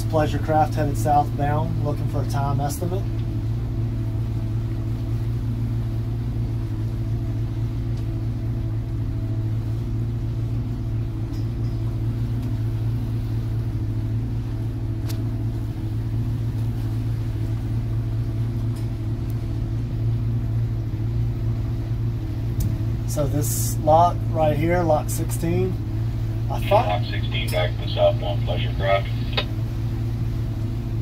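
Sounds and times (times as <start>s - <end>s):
boat engines droning: 0.0s - 31.0s.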